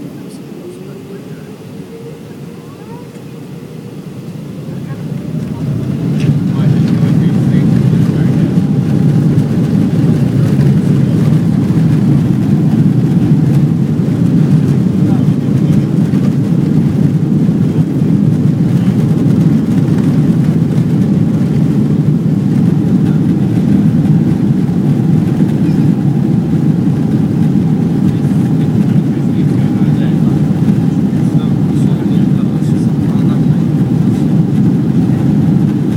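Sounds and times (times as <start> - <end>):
aircraft rolling down runway: 0.0 - 35.9
jet engines at takeoff thrust: 0.0 - 35.9.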